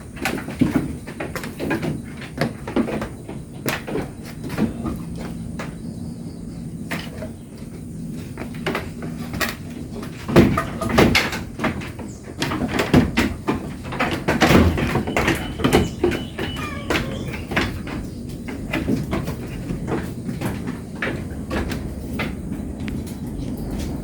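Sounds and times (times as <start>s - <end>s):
irregular knocks and rattles: 0.0s - 6.0s, 8.2s - 24.0s.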